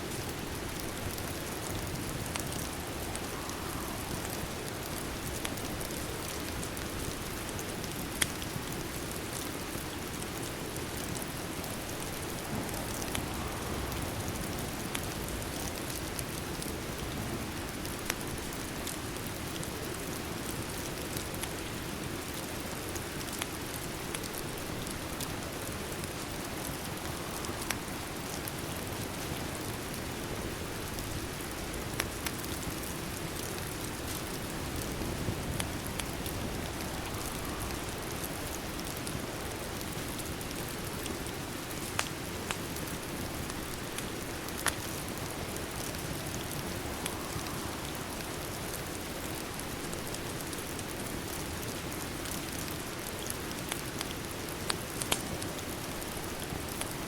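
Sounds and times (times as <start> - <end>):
fire crackling and popping: 0.0 - 57.0
steady rain hiss: 0.0 - 57.0.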